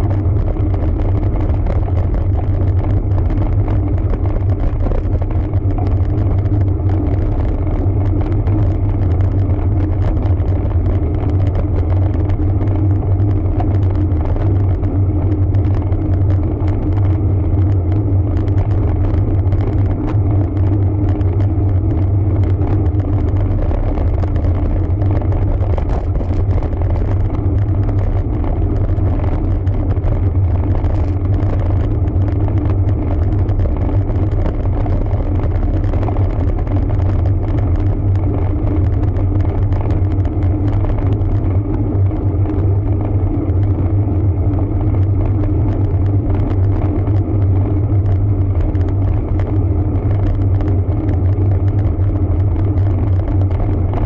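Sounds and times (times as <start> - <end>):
bike riding wind and road noise: 0.0 - 54.0.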